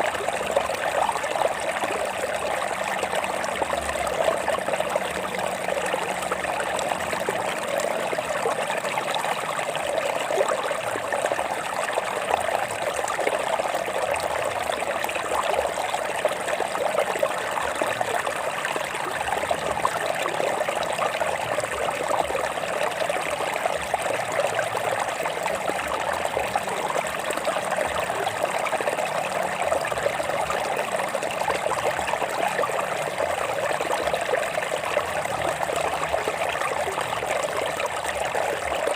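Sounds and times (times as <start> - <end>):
stream splashing over rocks: 0.0 - 38.9.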